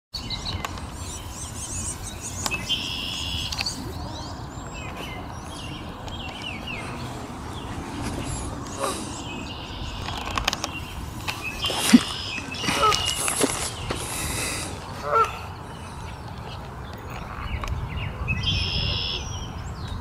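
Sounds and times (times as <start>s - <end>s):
birds chirping and calling: 0.2s - 20.0s.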